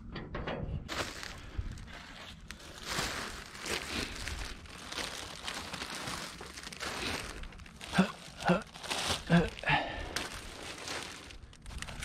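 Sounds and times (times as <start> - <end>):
plastic bags crinkling: 0.9 - 12.0.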